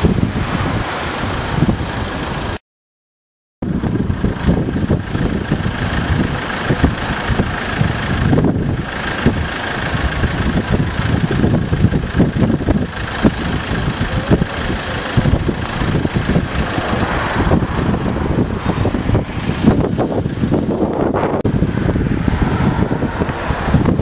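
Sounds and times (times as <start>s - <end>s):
rough sea rushing: 0.0s - 2.6s, 3.7s - 24.0s
wind buffeting microphone: 0.0s - 2.6s, 3.6s - 24.0s.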